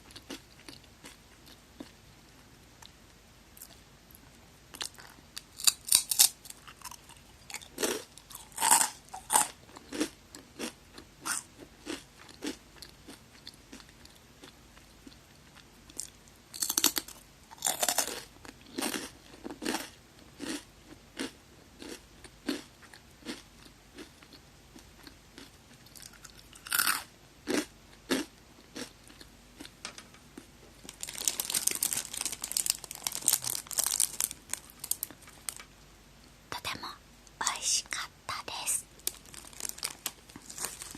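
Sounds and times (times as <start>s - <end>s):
crunching on crackers: 0.0s - 3.0s, 3.6s - 35.7s, 38.5s - 40.9s.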